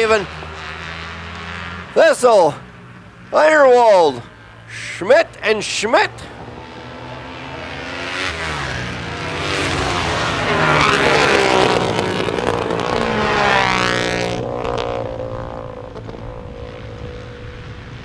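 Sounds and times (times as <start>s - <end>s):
motorcycles passing at speed: 0.0s - 18.0s.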